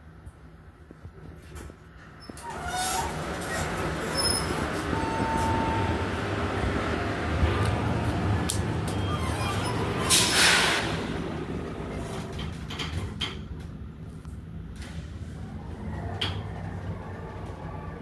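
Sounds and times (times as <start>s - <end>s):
elevator doors closing whoosh: 2.1s - 13.2s, 14.7s - 18.0s.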